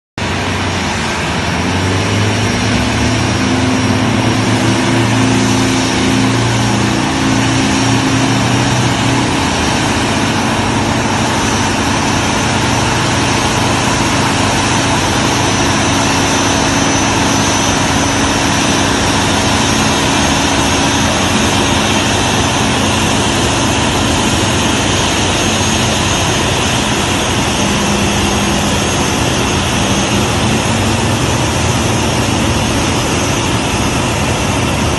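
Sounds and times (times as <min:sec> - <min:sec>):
jet engines running: 0:00.2 - 0:34.9.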